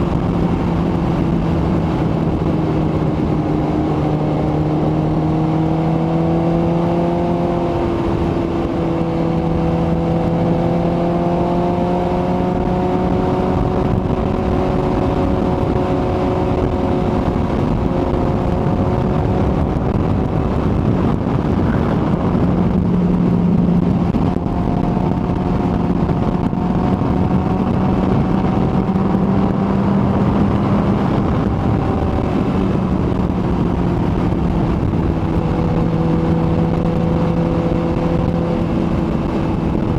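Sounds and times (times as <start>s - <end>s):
motorcycle engine cruising: 0.0s - 39.9s
wind rush: 0.0s - 39.9s.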